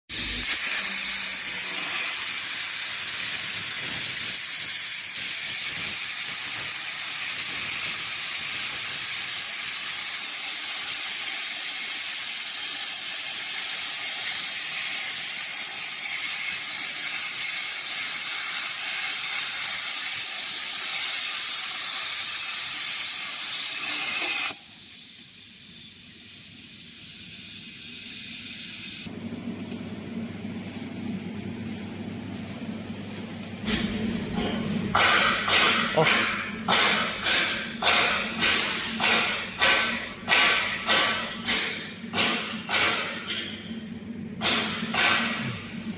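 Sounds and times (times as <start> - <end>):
plasma cutter hissing: 0.1 - 29.1, 33.6 - 43.4.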